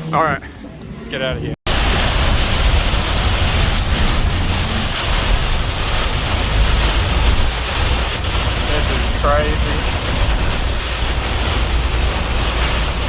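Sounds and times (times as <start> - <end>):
wind buffeting microphone: 1.7 - 13.0.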